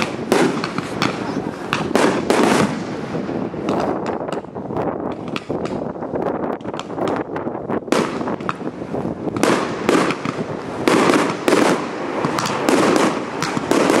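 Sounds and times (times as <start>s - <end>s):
fireworks bangs: 0.0s - 14.0s
fireworks crackling pops: 0.0s - 14.0s.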